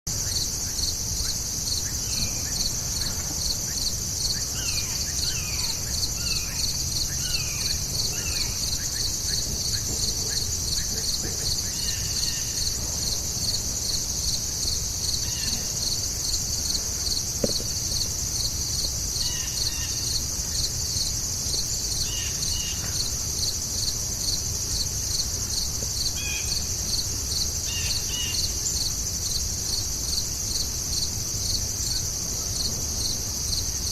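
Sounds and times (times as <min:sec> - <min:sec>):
pulsing insect chorus: 0:00.1 - 0:33.9.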